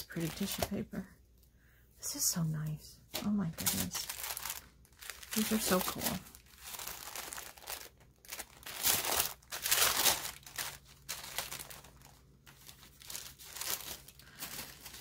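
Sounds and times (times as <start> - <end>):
tissue paper crinkling: 0.0 - 1.0, 3.1 - 15.0.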